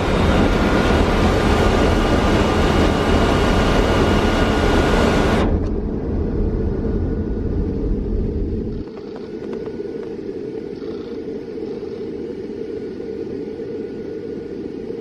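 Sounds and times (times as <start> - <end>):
cockpit airflow and engine noise: 0.0 - 15.0
deep rumble: 0.0 - 15.0.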